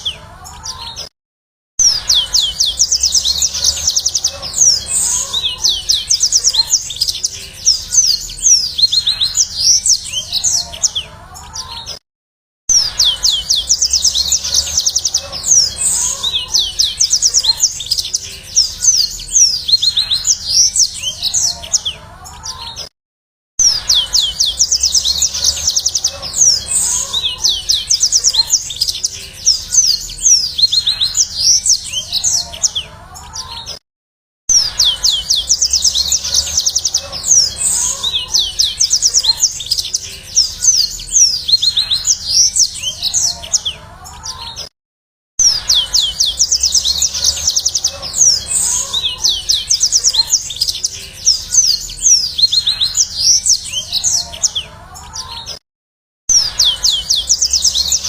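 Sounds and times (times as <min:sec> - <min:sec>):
canary singing high trills: 0:01.8 - 0:12.0, 0:12.7 - 0:22.8, 0:23.6 - 0:33.8, 0:34.5 - 0:44.6, 0:45.4 - 0:55.6, 0:56.3 - 0:58.0.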